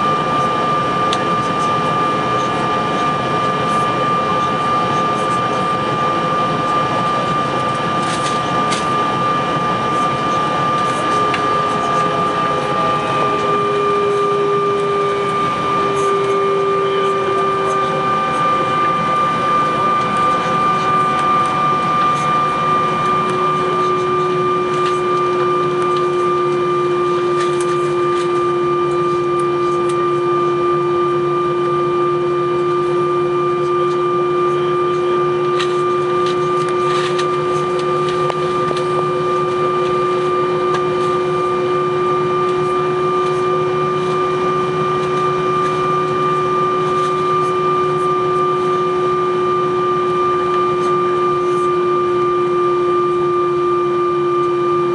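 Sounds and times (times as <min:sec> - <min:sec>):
jet engines idling whine: 0:00.0 - 0:54.9.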